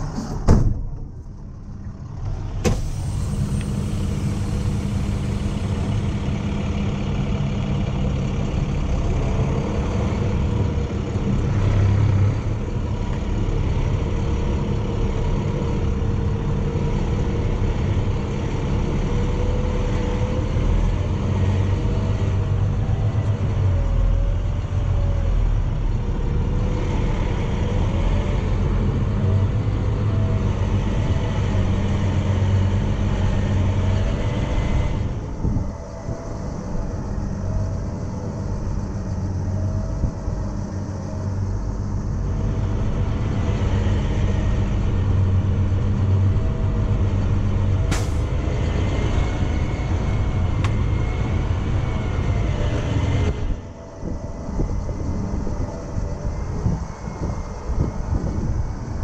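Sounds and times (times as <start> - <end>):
truck engine under load: 0.0 - 59.0.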